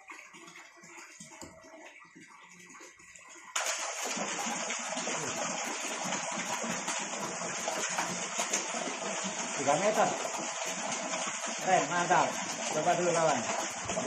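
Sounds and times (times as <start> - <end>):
water gushing and splashing: 0.0 - 14.0.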